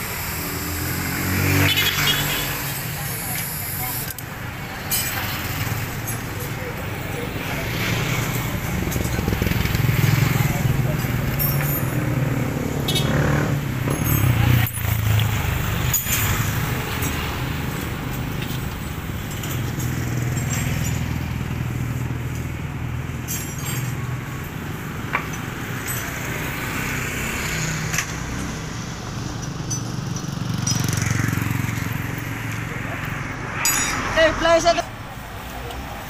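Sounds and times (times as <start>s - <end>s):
tools clicking and clinking: 3.3s - 13.1s, 13.8s - 34.2s.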